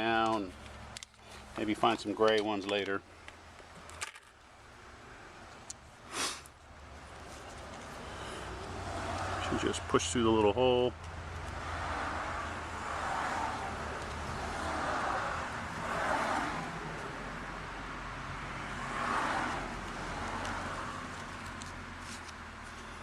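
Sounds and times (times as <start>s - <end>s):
cars passing: 0.0s - 23.0s.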